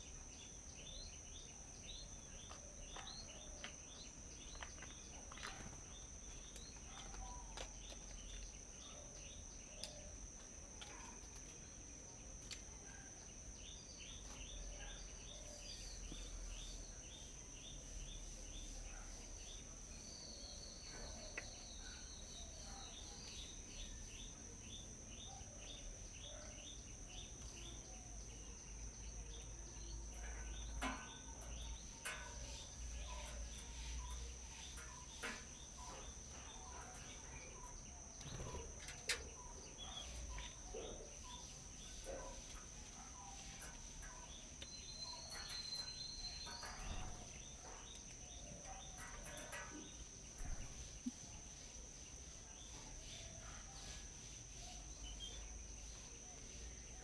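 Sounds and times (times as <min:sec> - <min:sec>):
small birds chirping: 0:00.0 - 0:57.0
high insect drone: 0:08.0 - 0:57.0.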